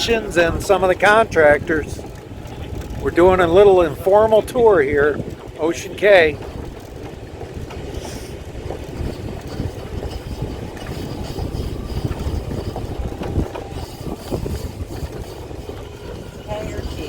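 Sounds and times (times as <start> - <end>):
tram running: 0.0 - 17.0
wind buffeting microphone: 0.0 - 17.0.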